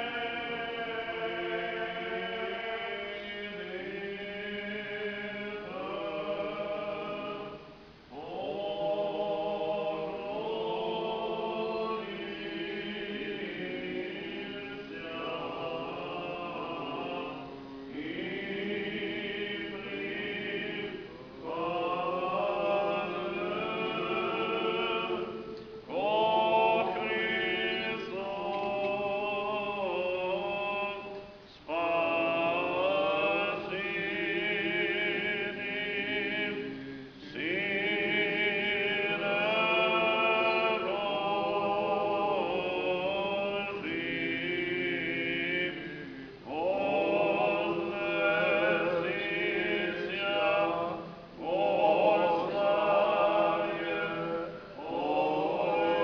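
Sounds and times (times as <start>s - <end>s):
church choir singing chant: 0.0s - 56.0s.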